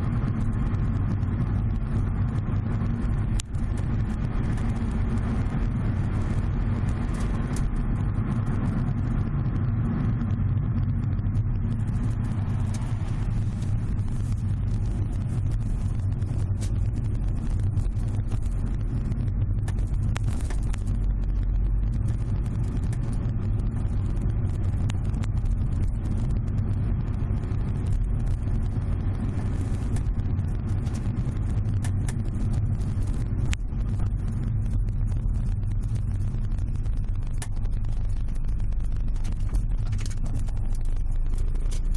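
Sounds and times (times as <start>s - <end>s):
road rumble: 0.0s - 41.9s
sharp crackling clicks: 0.1s - 41.9s.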